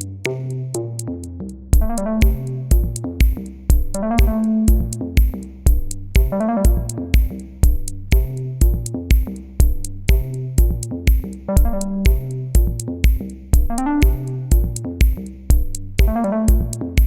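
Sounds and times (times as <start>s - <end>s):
electronic music with drum machine: 0.0s - 17.0s.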